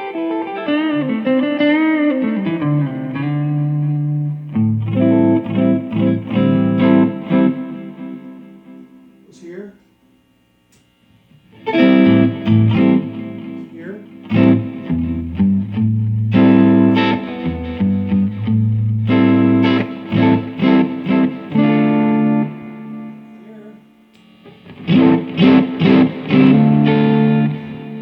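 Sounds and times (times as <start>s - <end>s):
electric guitar chords: 0.0s - 9.5s, 10.7s - 28.0s.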